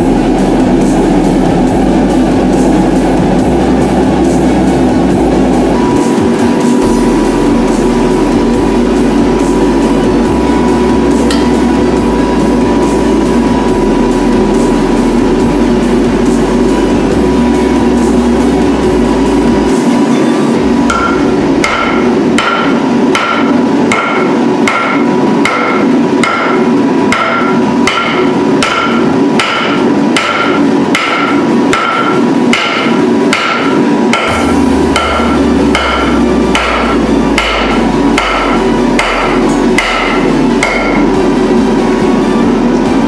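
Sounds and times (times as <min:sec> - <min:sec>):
hammer blows on hot steel: 0:00.0 - 0:43.0.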